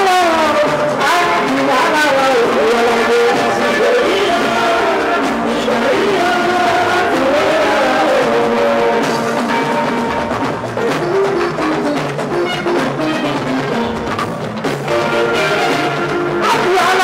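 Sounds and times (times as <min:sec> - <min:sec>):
drum ensemble playing: 0:00.0 - 0:17.0.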